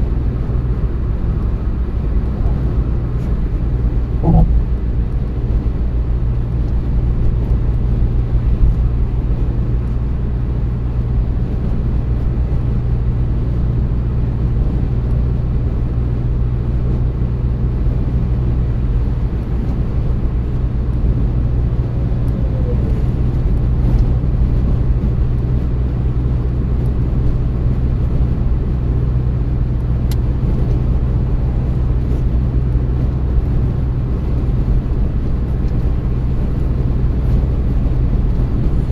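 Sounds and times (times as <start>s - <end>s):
car engine drone: 0.0s - 38.9s
tyre road noise: 0.0s - 38.9s.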